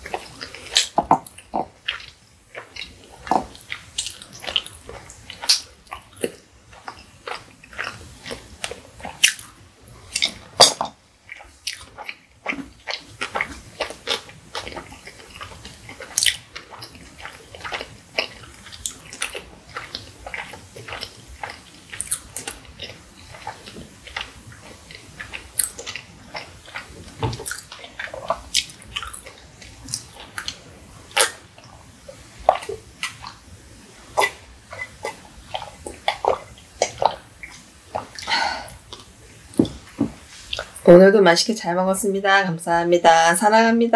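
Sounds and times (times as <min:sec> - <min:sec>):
mouth chewing: 0:00.0 - 0:40.9
gulping water: 0:00.0 - 0:43.9.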